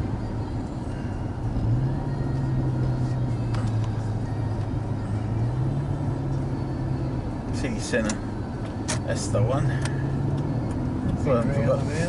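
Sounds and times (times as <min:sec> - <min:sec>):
car engine and road noise drone: 0:00.0 - 0:12.0.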